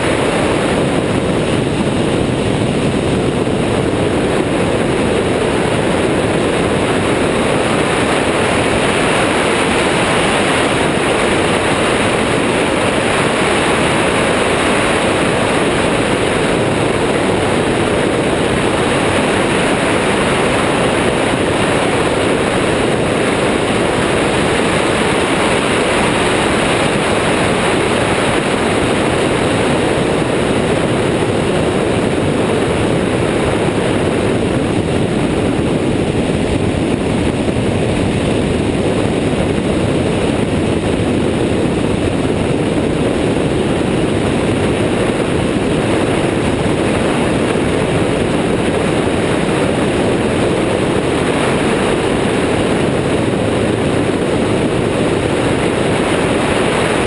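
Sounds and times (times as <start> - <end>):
engine and propeller noise: 0.0 - 57.0
wind rushing: 0.0 - 57.0.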